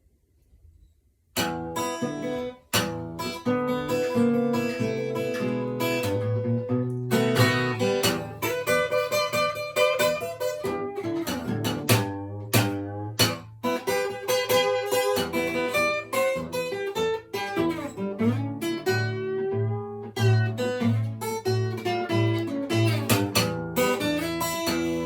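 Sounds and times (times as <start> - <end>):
acoustic guitar fingerpicked blues: 1.4 - 25.0.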